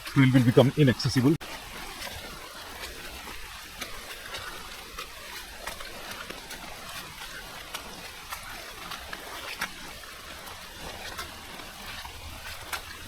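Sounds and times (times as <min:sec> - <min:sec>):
rain falling on foliage: 0:00.0 - 0:13.0.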